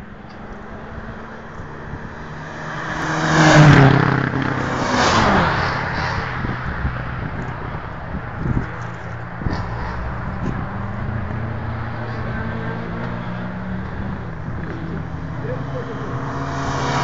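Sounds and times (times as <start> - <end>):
car passing at speed: 0.6 - 8.5, 9.3 - 17.0.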